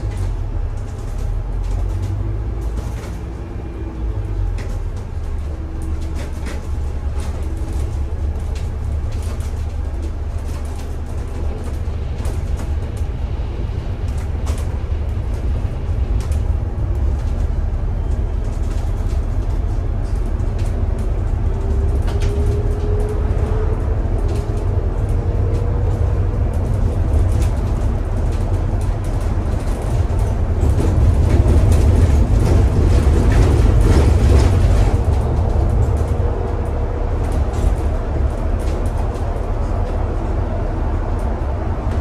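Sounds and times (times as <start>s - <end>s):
bus engine and road rumble: 0.0s - 42.0s
rattles and clicks: 4.5s - 42.0s.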